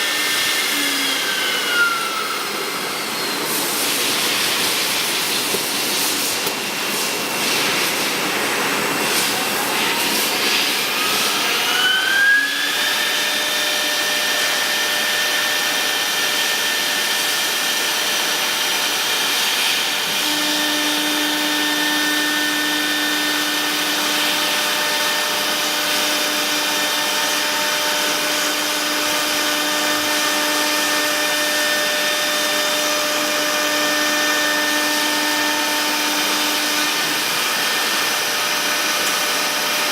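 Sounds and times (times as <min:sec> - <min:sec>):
router spindle motor whining: 0:00.0 - 0:05.7, 0:09.4 - 0:39.9.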